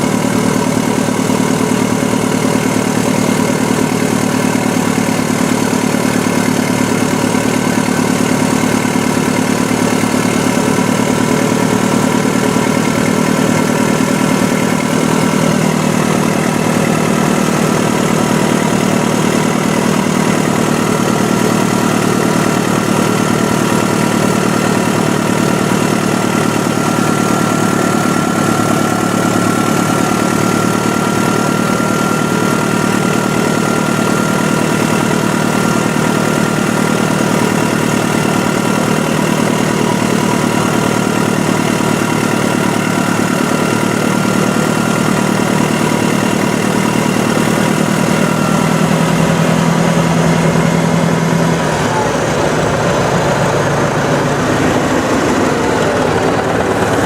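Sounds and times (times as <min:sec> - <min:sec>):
steady whine: 0:00.0 - 0:34.5, 0:35.2 - 0:57.0
heavy diesel engine running: 0:00.0 - 0:57.0.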